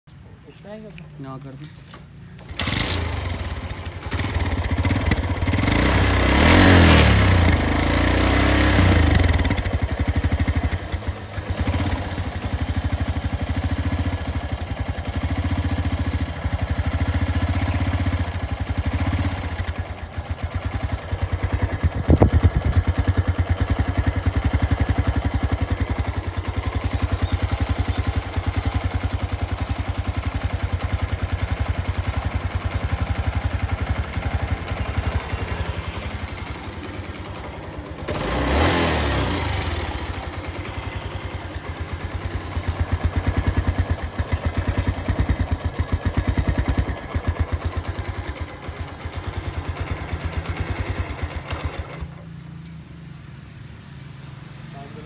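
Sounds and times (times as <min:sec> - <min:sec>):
motorcycle engine idling: 0:01.7 - 0:55.0.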